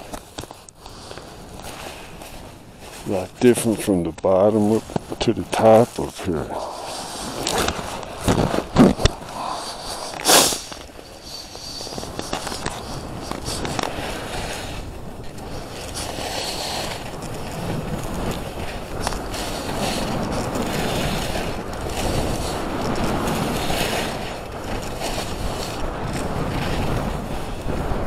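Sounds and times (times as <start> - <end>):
skis sliding over snow: 0.0 - 28.0
wind rushing across microphone: 0.0 - 28.0.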